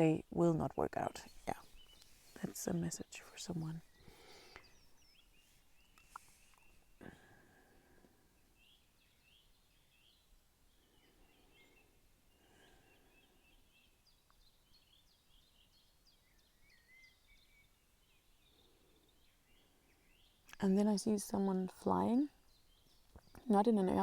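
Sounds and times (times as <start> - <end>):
small birds chirping: 0.0 - 24.0
soft outdoor hiss: 0.0 - 24.0.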